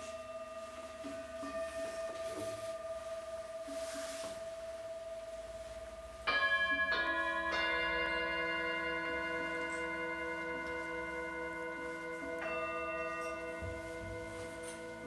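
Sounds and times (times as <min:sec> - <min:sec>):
singing bowl humming: 0:00.0 - 0:15.0
singing bowls struck with mallet: 0:00.0 - 0:15.0.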